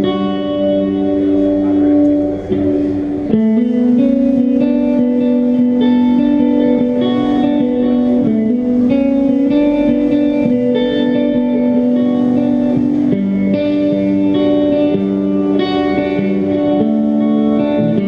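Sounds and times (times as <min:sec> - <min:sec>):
hardcore band playing live: 0:00.0 - 0:18.0
ringing electric guitar notes: 0:00.0 - 0:18.0.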